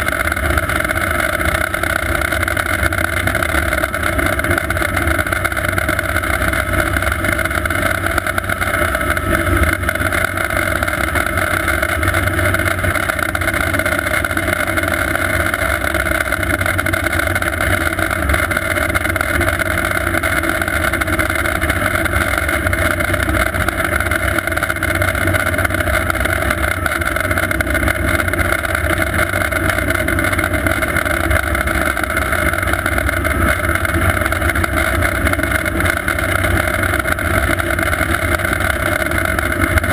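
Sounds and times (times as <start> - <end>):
helicopter rotor beat: 0.0 - 39.9.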